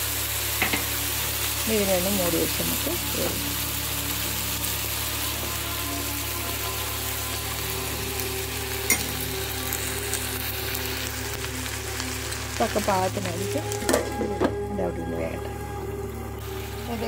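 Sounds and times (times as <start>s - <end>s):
curry sizzling and bubbling: 0.0s - 17.0s.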